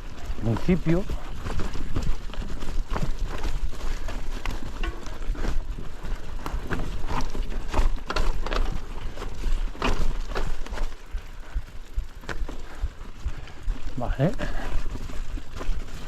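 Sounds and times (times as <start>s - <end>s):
bike knocking and rattling: 0.0s - 16.0s
bike tyres crunching on leaves: 0.0s - 16.0s.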